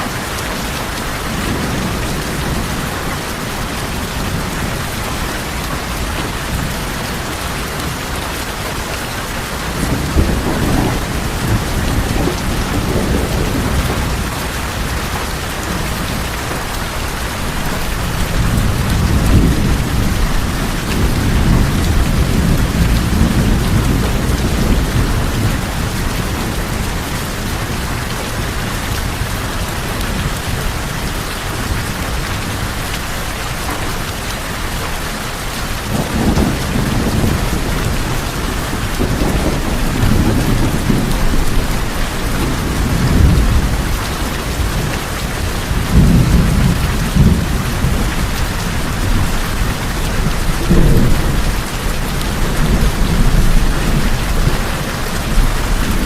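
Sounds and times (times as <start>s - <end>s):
low rolling thunder: 0.0s - 32.9s, 35.4s - 56.0s
heavy rain on a tin roof: 0.0s - 56.0s.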